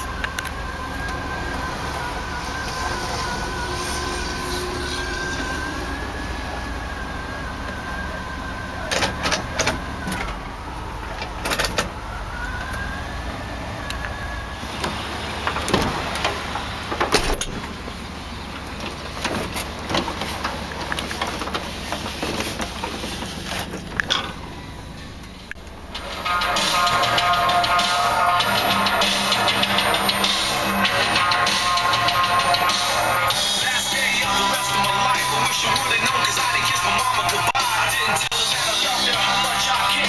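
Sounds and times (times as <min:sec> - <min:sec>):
steady low rumble: 0:00.0 - 0:39.7.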